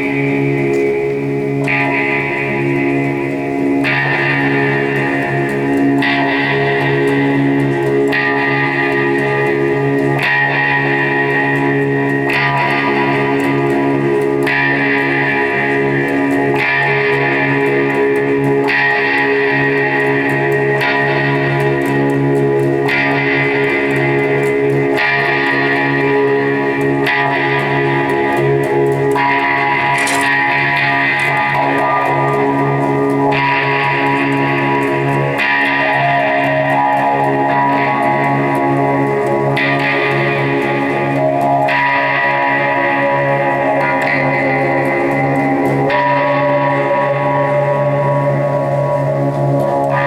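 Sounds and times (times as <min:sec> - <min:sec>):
live band with electric guitar: 0:00.0 - 0:50.0.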